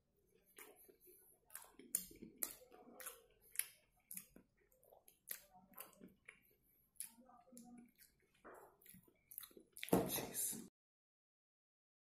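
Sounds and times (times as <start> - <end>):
close-up chewing: 0.2 - 10.0.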